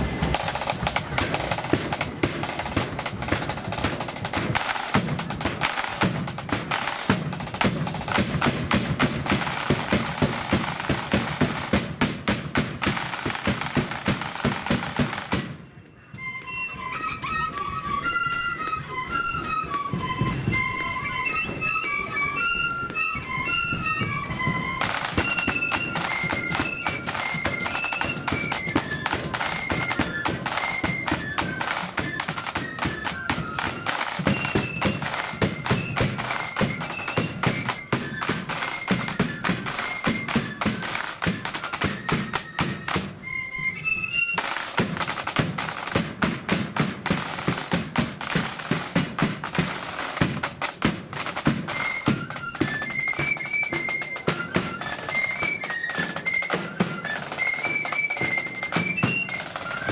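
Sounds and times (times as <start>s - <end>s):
flutes playing high tune: 0.0s - 11.8s, 12.8s - 46.0s, 47.0s - 59.9s
rapid drumming: 0.0s - 15.6s, 23.8s - 43.2s, 44.4s - 59.9s.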